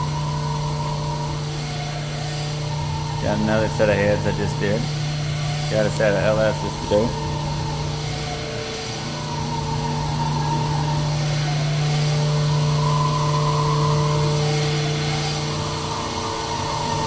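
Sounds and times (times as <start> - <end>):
machinery humming: 0.0 - 17.0
machinery whine: 0.0 - 17.0.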